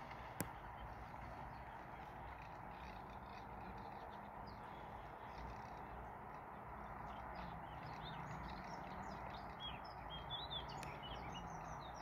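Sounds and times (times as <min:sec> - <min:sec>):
distant birds chirping: 0:00.0 - 0:12.0
steady outdoor hiss: 0:00.0 - 0:12.0.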